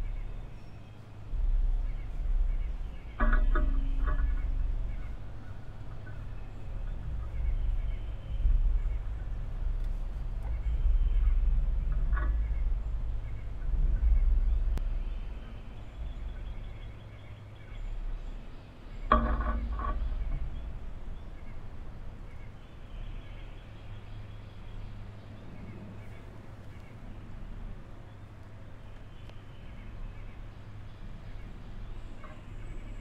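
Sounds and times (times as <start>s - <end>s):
faint bird chirps: 0.0s - 27.2s
steady low hum: 0.0s - 33.0s.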